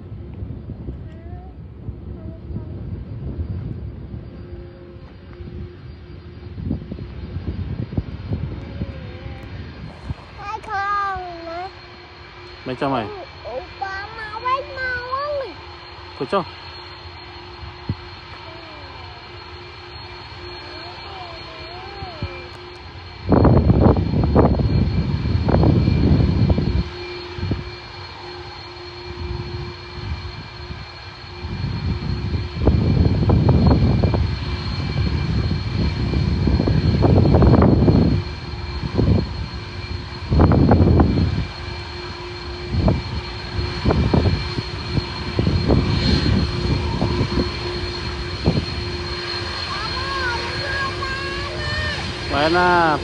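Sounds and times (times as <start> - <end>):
wind buffeting microphone: 0.0 - 16.2, 16.9 - 27.8, 29.0 - 53.0
jet engine noise: 0.0 - 53.0.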